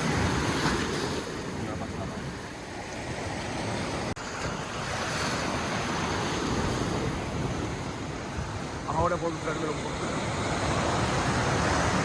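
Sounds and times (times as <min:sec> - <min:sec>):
surf washing against shore: 0:00.0 - 0:12.0.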